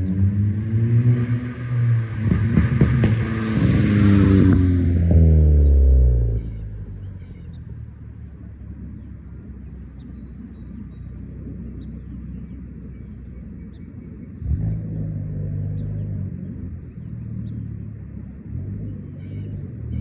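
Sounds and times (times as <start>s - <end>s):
car exhaust rumbling: 0.0s - 20.0s.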